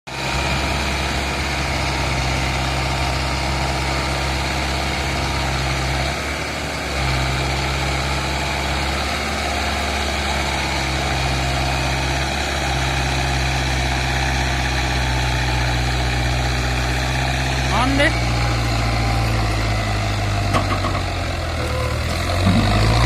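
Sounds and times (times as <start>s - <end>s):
tractor diesel engine idling: 0.1s - 23.0s.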